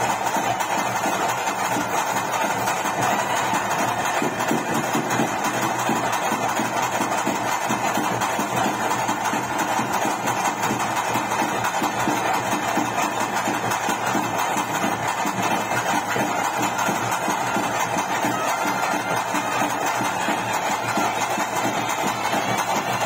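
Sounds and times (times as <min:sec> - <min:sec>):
fast drumming: 0:00.0 - 0:23.0.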